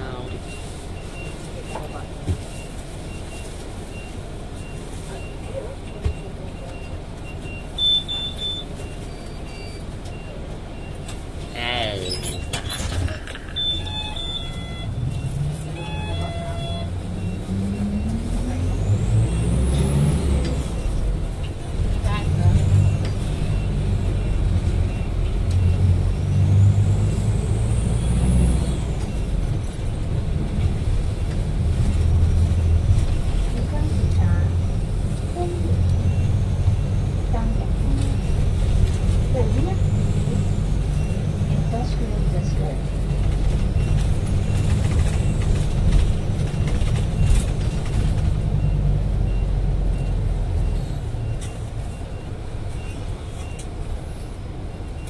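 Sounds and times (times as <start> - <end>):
vehicle rumble: 0.0 - 55.0.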